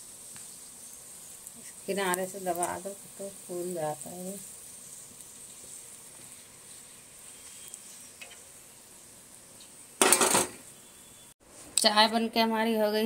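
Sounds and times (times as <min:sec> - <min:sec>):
flatbread sizzling in oil: 0:00.0 - 0:11.7.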